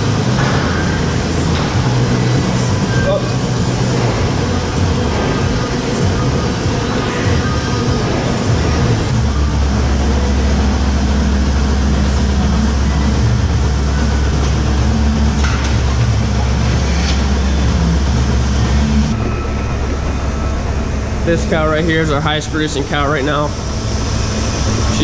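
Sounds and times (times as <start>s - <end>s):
milking machinery rumble: 0.0s - 25.0s.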